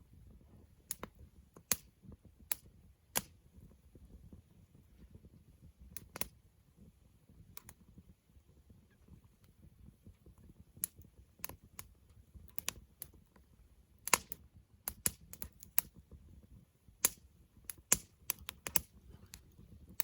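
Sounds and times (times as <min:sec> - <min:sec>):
low rush of flames: 0:00.0 - 0:20.0
campfire crackling and popping: 0:00.2 - 0:20.0.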